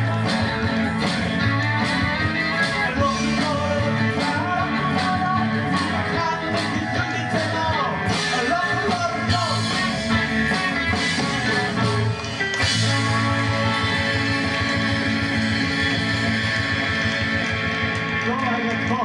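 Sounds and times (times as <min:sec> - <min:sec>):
rock band through television: 0:00.0 - 0:19.0.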